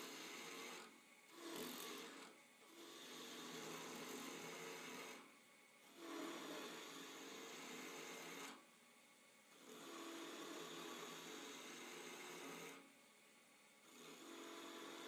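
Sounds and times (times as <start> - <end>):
chisel scraping spinning wood: 0.0 - 5.2, 5.9 - 8.5, 9.6 - 12.8, 13.9 - 15.0.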